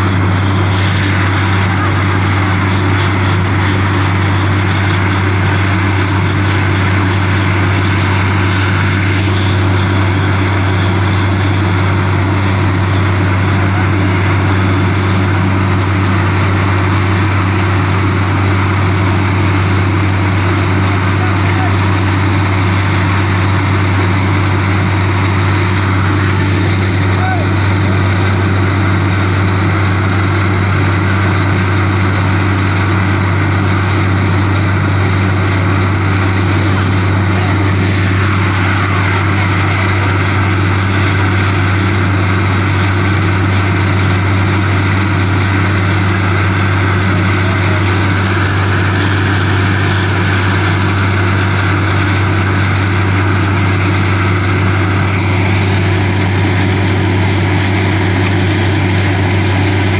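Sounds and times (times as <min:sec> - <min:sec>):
drilling rig engine drone: 0:00.0 - 0:59.9.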